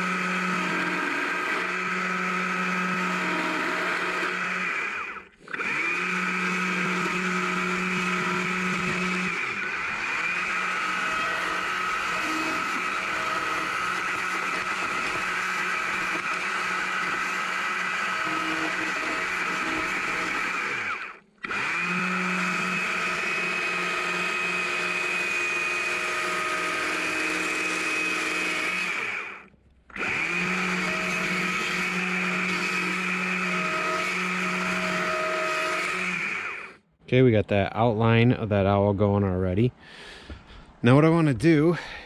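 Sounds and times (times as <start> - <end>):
chainsaw cutting a log: 0.0 - 36.8.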